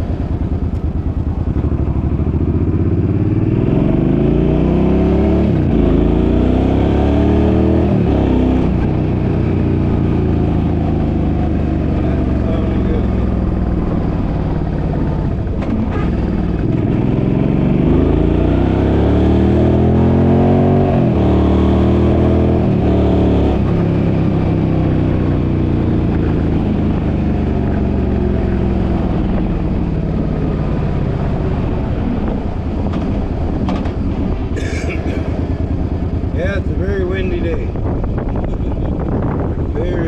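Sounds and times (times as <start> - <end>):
car engine accelerating: 0.0 - 40.0
road and wind noise: 0.0 - 40.0.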